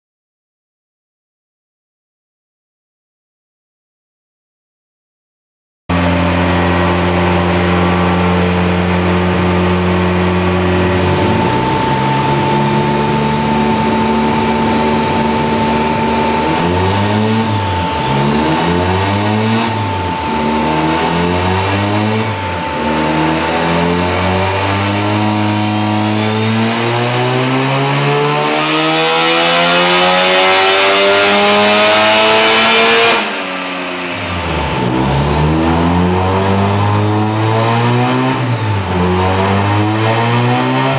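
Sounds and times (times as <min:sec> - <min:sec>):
rotary engine revving: 0:05.9 - 0:40.9.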